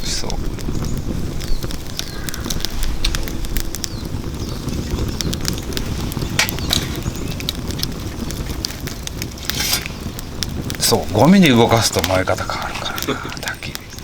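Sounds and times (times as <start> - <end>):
flame rushing: 0.0 - 14.0
logs crackling and popping: 0.0 - 14.0.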